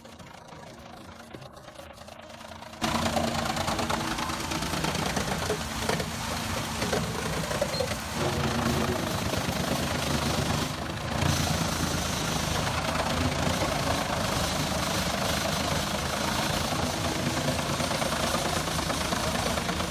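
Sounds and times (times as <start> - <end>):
heavy machine engine under load: 0.0 - 19.9.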